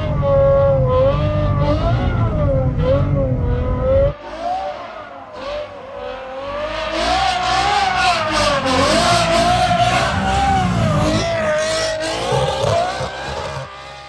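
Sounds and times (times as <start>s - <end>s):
car engine running hard: 0.0s - 14.0s.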